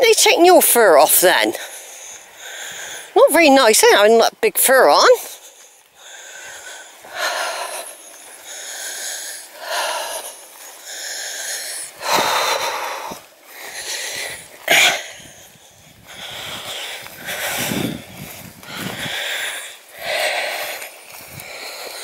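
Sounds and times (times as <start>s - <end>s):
heavy wheezy breathing: 1.5s - 3.2s, 5.2s - 22.0s.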